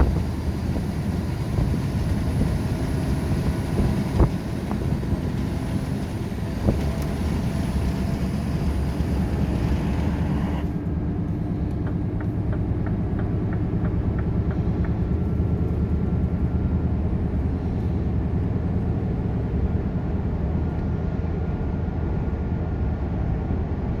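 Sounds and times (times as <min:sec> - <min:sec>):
diesel truck engine drone: 0:00.0 - 0:24.0.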